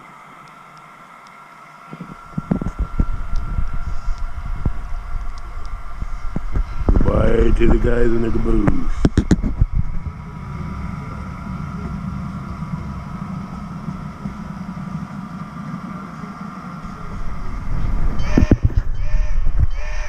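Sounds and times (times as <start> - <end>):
freight train rumbling on rails: 2.2 - 20.0.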